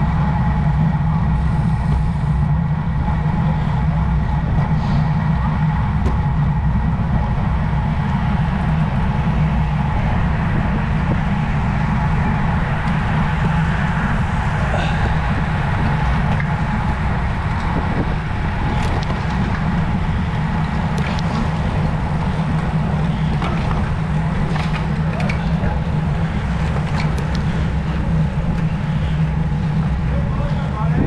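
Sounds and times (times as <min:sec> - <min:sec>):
bicycle road noise: 0:00.0 - 0:31.0
wind rumbling over microphone: 0:00.0 - 0:31.0.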